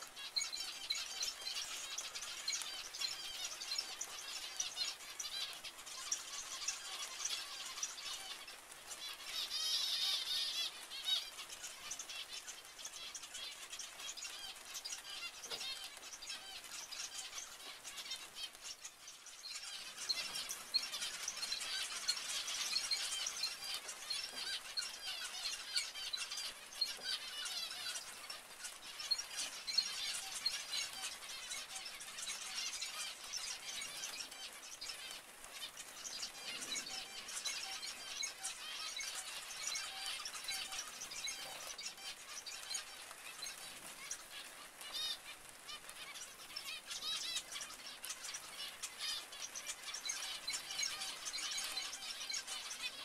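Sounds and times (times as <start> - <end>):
finches chirping: 0.0 - 53.0.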